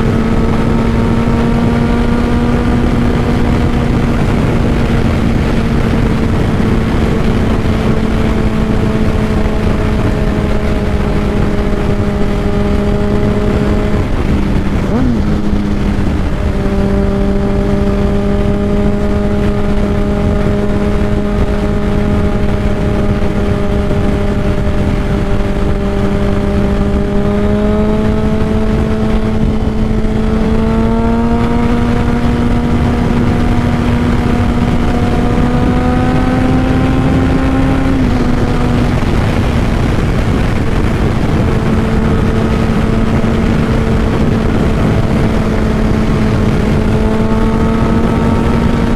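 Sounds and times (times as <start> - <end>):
motorcycle engine cruising: 0.0 - 48.9
wind noise: 0.0 - 48.9.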